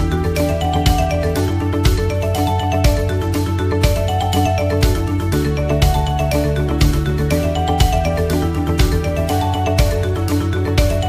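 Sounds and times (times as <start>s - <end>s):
electronic music with strong beat: 0.0s - 11.0s.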